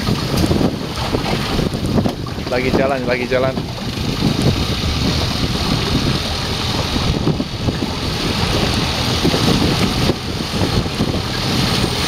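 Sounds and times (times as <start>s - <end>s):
waves washing against boat: 0.0s - 12.0s
wind buffeting microphone: 0.0s - 12.0s.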